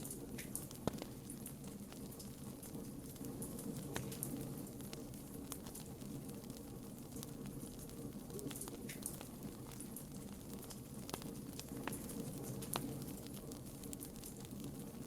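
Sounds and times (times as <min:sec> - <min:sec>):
fire pops and snaps: 0:00.0 - 0:15.0
wood bonfire crackling: 0:00.0 - 0:15.0.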